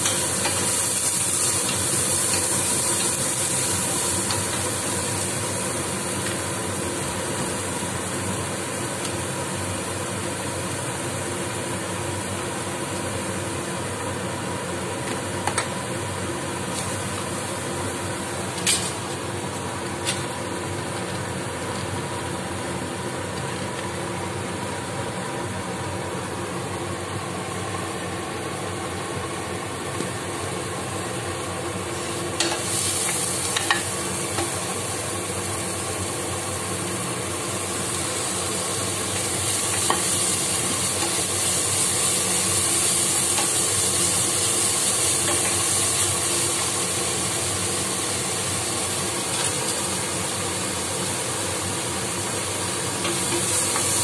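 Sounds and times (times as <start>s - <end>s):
onions sizzling in a frying pan: 0.0s - 54.0s.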